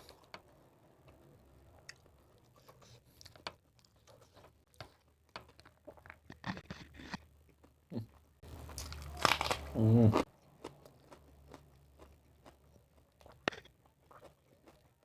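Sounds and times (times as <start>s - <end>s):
person chewing and biting food: 1.9s - 15.0s.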